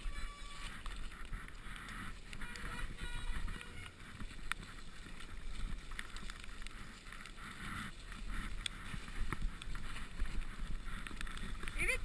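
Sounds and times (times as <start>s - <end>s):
bike clicking and rattling: 0.0s - 12.0s
tyre and wind rumble: 0.0s - 12.0s.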